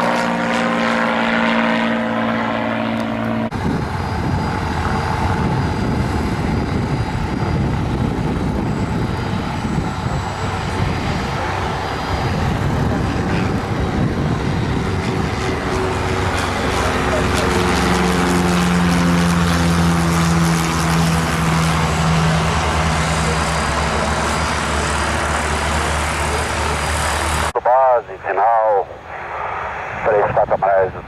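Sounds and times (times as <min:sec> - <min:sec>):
rough engine rumble: 0:00.0 - 0:27.5
propeller aircraft engine hum: 0:00.0 - 0:31.0.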